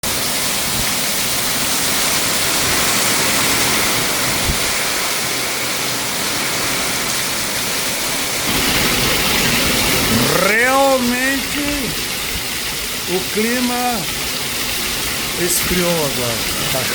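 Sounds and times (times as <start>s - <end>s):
rain falling steadily: 0.0s - 16.9s.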